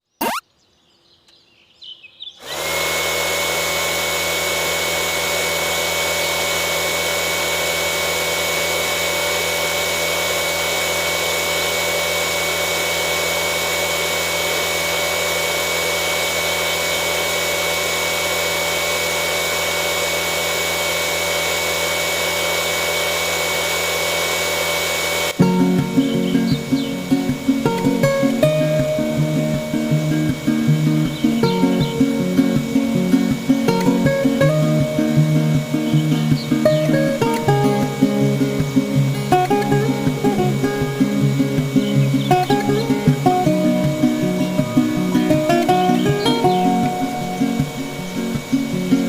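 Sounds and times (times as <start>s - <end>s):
electric power tool whining: 2.4s - 49.0s.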